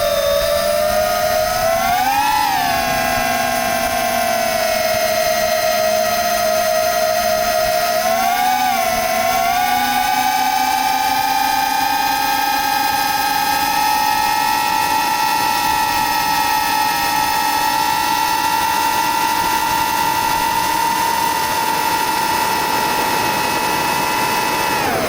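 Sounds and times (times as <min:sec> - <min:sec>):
model aircraft motors whining: 0:00.0 - 0:25.0.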